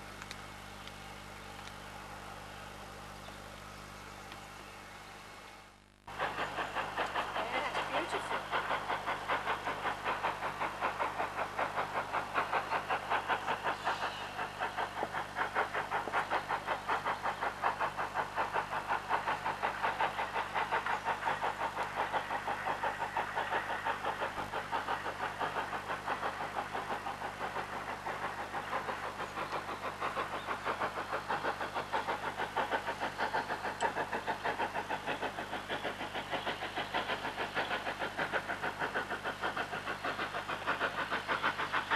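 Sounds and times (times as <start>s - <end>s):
distant steam locomotive chuffing: 0.0s - 41.9s.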